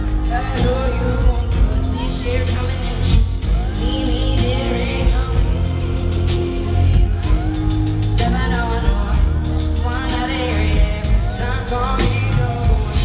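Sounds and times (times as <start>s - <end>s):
live pop band with heavy bass: 0.0s - 13.0s
woman singing into a microphone: 0.0s - 13.0s.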